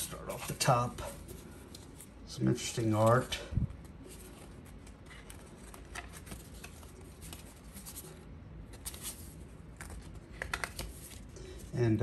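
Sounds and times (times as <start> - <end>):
postcards rustling: 0.0 - 11.8.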